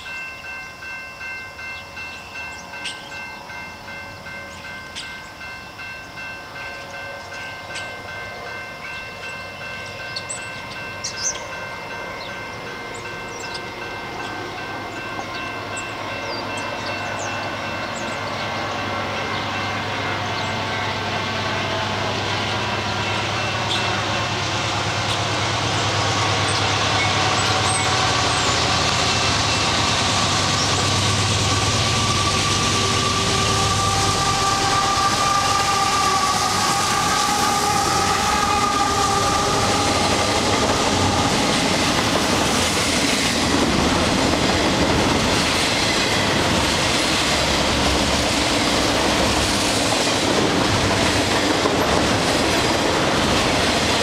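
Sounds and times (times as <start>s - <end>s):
freight cars rolling on rails: 0.0s - 54.0s
locomotive engine hum: 0.1s - 54.0s.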